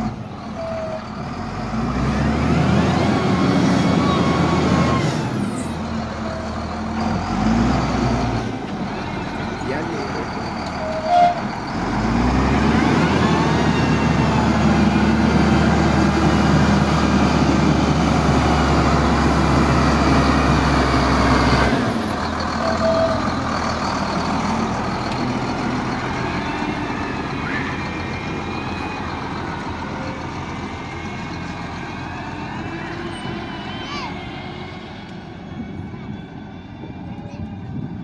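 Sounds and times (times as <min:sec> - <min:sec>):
heavy diesel engine droning: 0:00.0 - 0:38.0
traffic noise: 0:00.0 - 0:38.0.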